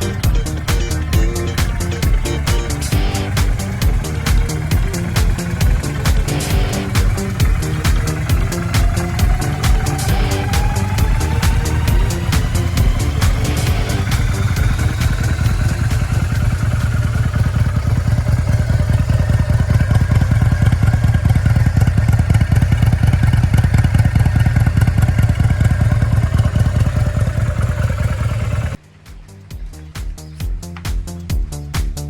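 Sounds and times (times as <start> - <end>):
motorcycle engine idling: 0.0 - 31.7.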